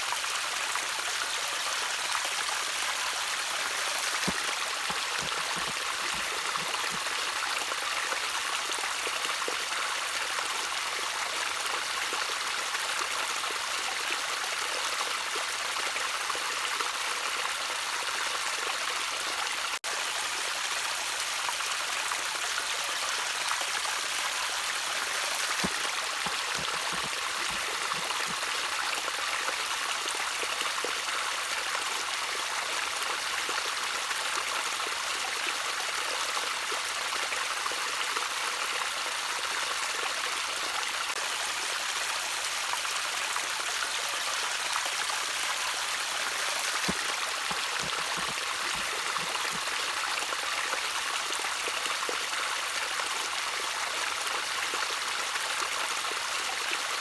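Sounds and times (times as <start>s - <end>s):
stream of water trickling: 0.0s - 57.0s.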